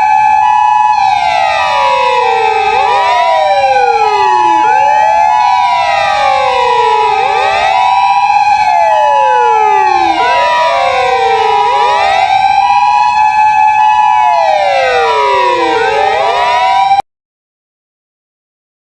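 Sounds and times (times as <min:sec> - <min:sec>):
two-tone siren: 0:00.0 - 0:17.0
wailing sirens: 0:00.0 - 0:17.0.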